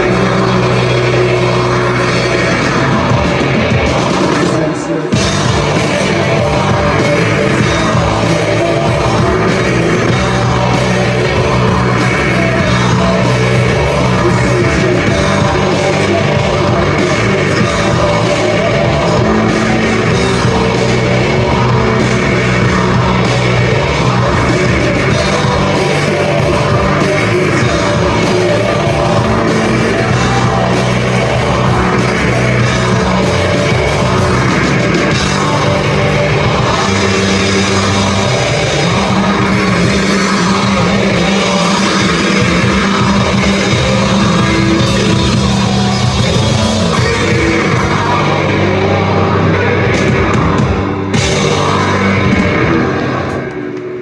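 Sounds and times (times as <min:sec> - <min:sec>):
live rock band playing: 0:00.0 - 0:54.0
sung and yelled vocals: 0:00.0 - 0:54.0.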